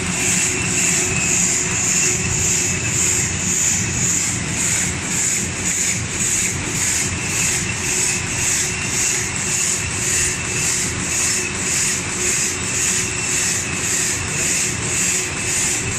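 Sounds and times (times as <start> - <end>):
high swishing machine sound: 0.0 - 15.9
steady mechanical hum: 0.0 - 15.9.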